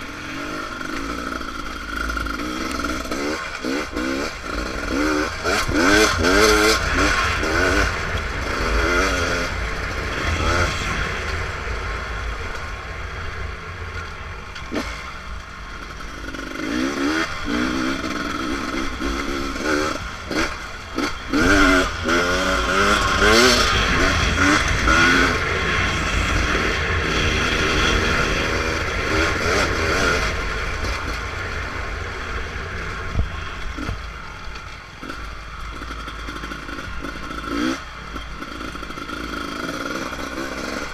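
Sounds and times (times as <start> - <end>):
two-stroke engine revving: 0.0 - 12.4, 14.7 - 34.1, 35.0 - 40.9.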